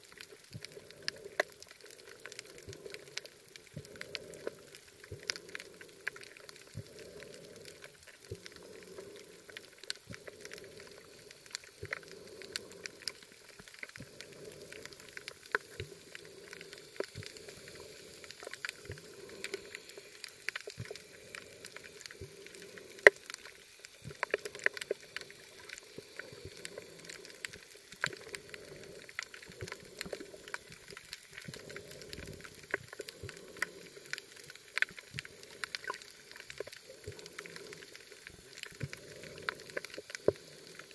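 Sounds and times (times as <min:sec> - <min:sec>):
snapping shrimp crackle: 0:00.0 - 0:40.9.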